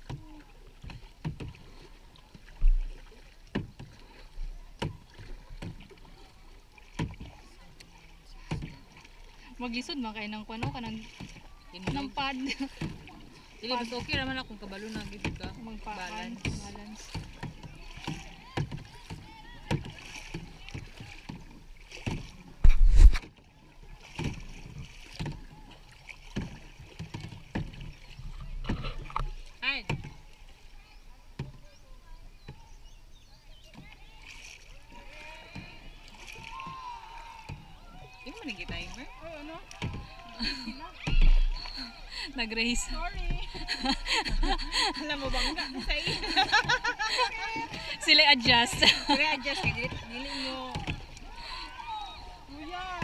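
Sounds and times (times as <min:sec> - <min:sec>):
paddles splashing in water: 0:00.0 - 0:53.0.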